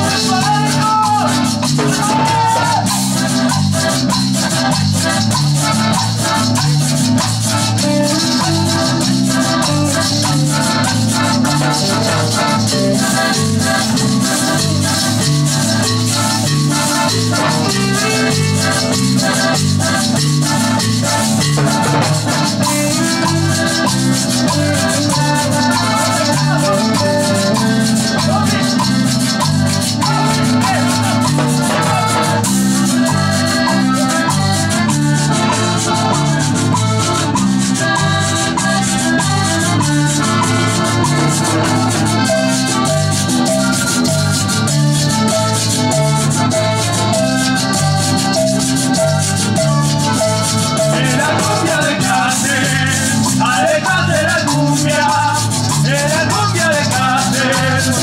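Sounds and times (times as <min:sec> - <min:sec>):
accordion melody: 0:00.0 - 0:58.0
repeating bass beat: 0:00.0 - 0:58.0
scraped metal guacharaca: 0:00.0 - 0:58.0.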